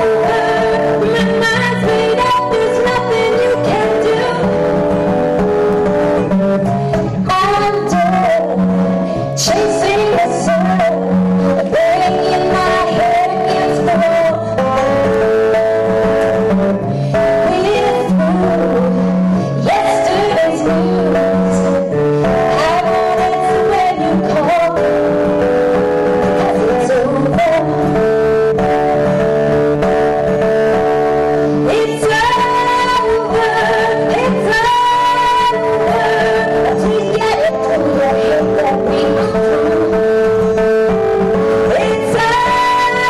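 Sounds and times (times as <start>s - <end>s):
woman singing: 0.0s - 29.2s, 30.8s - 43.0s
acoustic guitar: 0.0s - 43.0s.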